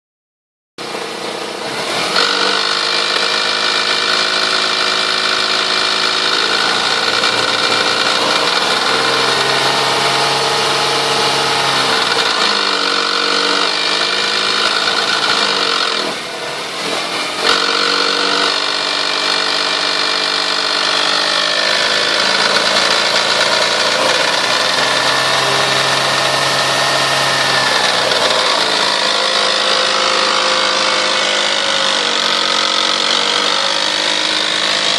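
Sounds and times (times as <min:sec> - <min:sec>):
car engine revving: 0:00.8 - 0:34.9.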